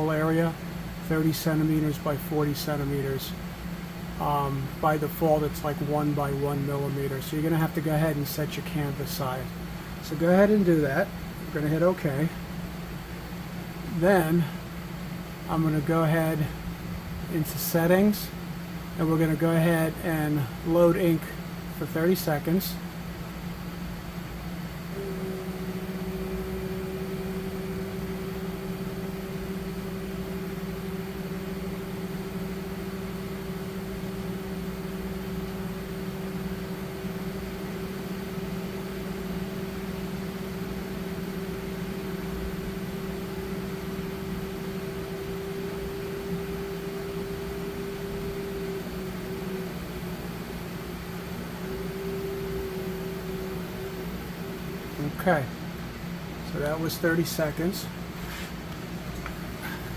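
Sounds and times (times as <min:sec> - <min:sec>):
constant mid-pitched tone: 0:00.0 - 0:59.9
printer motor hum: 0:00.0 - 0:59.9.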